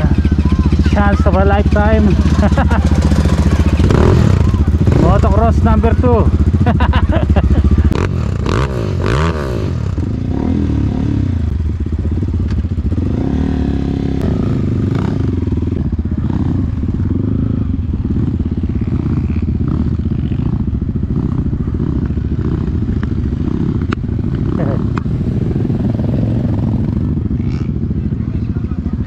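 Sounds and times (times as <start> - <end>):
dirt bike engine revving: 0.0 - 28.2.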